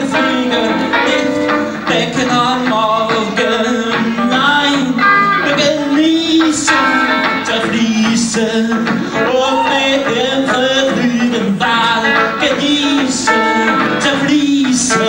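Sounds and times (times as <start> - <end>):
electric guitar strumming: 0.0 - 15.0
man singing into microphone: 0.0 - 15.0.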